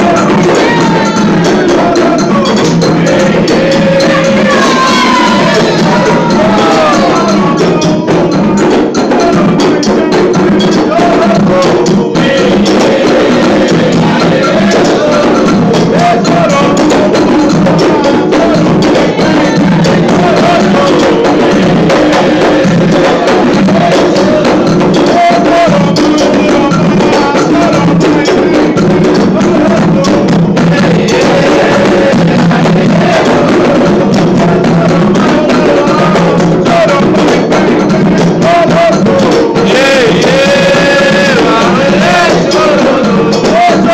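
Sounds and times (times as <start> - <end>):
hand drumming and percussion: 0.0 - 43.9
voices chanting: 0.0 - 43.9.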